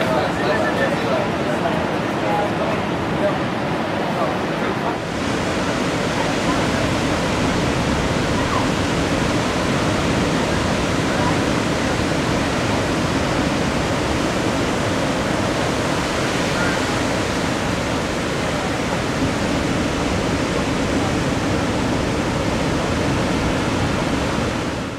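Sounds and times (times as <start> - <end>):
ocean surf breaking: 0.0 - 24.9.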